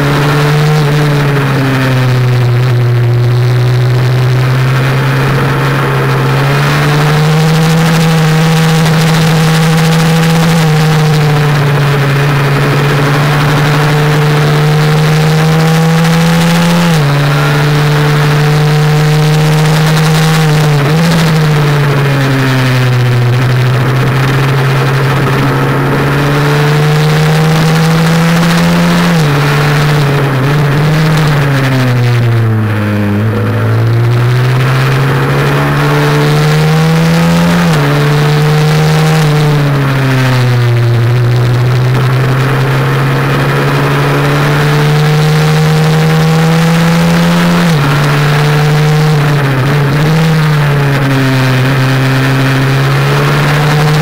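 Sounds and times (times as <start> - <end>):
motorcycle engine at racing speed: 0.0 - 54.0.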